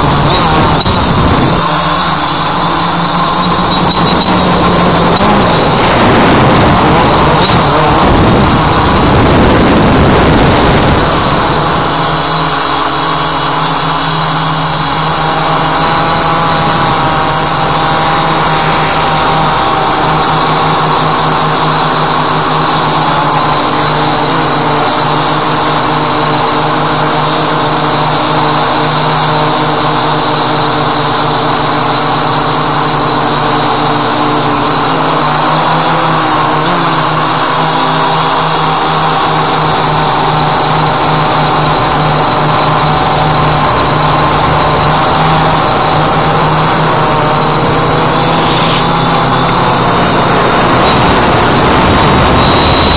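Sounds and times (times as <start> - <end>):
drone motors buzzing: 0.0 - 52.9.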